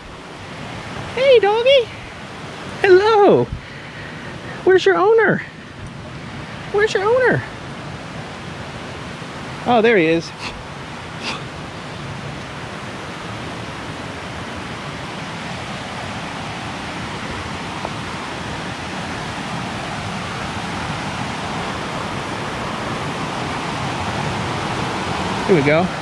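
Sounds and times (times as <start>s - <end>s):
water rushing over rapids: 0.0s - 26.0s.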